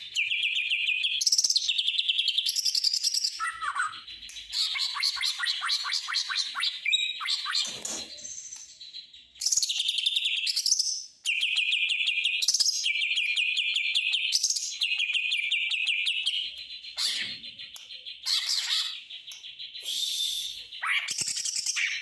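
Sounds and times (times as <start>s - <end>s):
bird singing chattering phrases: 0.0s - 22.0s.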